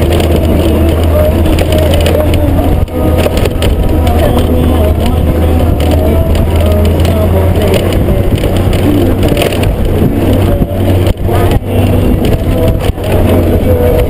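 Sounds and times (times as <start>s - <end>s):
motorcycle engine running: 0.0s - 14.0s
tyres rolling on gravel: 0.0s - 14.0s
wind noise on microphone: 0.0s - 14.0s.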